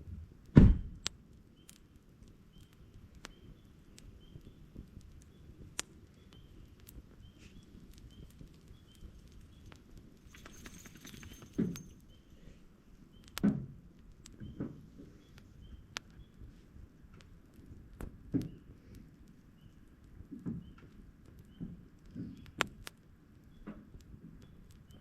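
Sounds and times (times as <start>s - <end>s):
campfire crackling: 0.2s - 25.0s.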